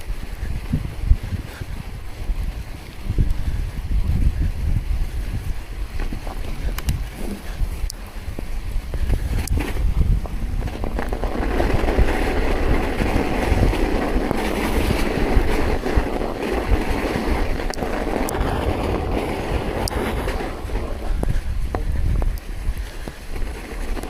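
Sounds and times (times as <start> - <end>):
rushing through fresh snow: 0.0 - 24.0
wind buffeting microphone: 0.0 - 24.0.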